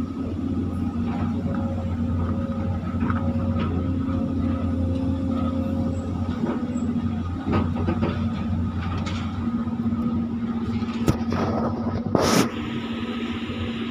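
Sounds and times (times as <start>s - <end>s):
excavator diesel engine running: 0.0s - 13.9s.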